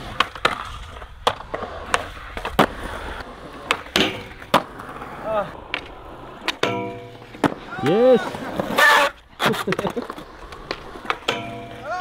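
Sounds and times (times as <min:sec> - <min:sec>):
skateboard clacking on ground: 0:00.0 - 0:12.0
skateboard wheels rolling on concrete: 0:00.0 - 0:12.0
skateboard grinding metal rail: 0:01.7 - 0:12.0.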